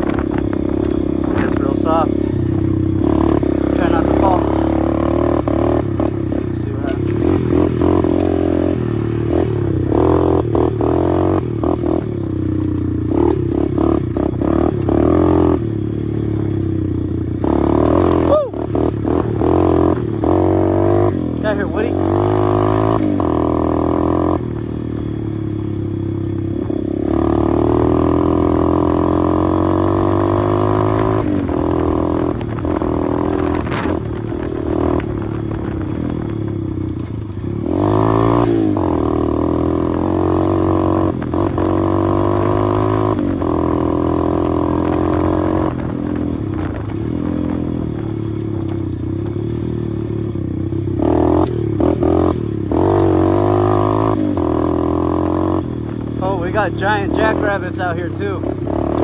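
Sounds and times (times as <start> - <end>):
pit bike engine revving: 0.0 - 59.0.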